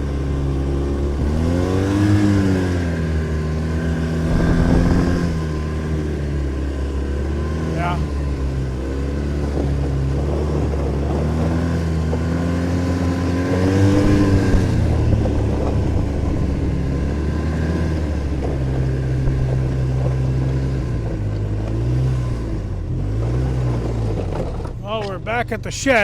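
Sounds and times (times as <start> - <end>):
snowmobile engine running: 0.0 - 21.1, 24.8 - 26.0.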